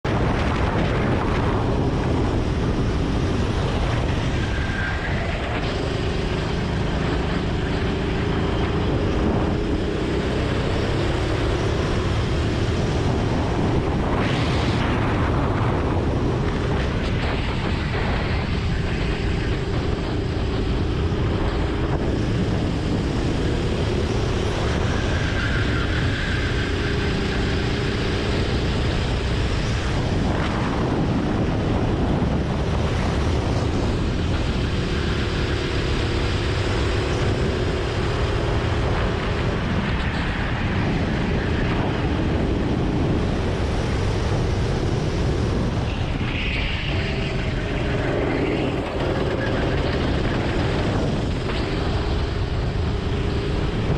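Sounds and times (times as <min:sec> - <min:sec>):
steady rush of noise: 0:00.0 - 0:53.9
go-kart engine running: 0:00.2 - 0:30.2, 0:30.8 - 0:53.9.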